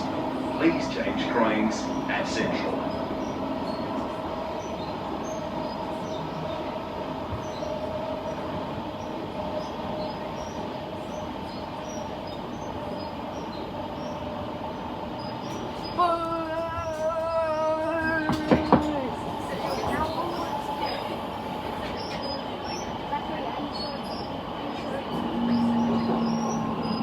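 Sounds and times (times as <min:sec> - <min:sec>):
electric train whine: 0:00.0 - 0:27.0
train wheels rumbling on track: 0:00.0 - 0:27.0.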